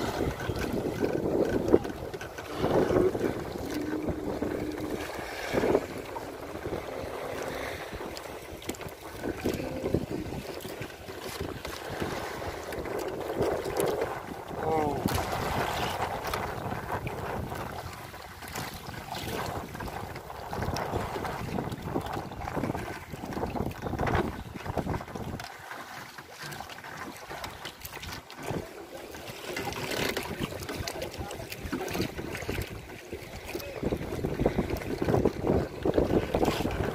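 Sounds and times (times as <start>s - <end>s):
wind buffeting microphone: 0.0s - 25.4s, 29.7s - 36.9s
water sloshing against boat hull: 0.0s - 36.9s.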